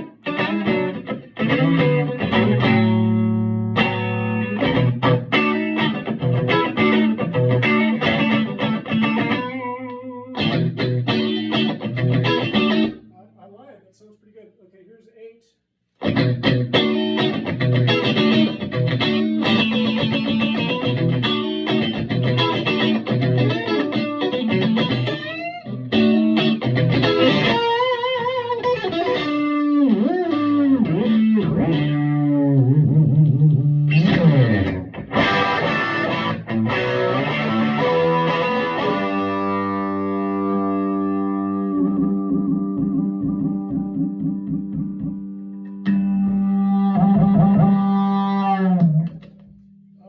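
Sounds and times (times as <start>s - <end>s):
overdriven electric guitar: 0.0s - 13.0s, 16.0s - 49.6s.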